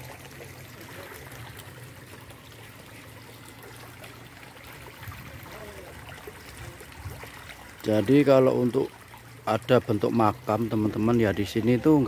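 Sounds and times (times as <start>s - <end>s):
water rushing over stones: 0.0s - 12.0s.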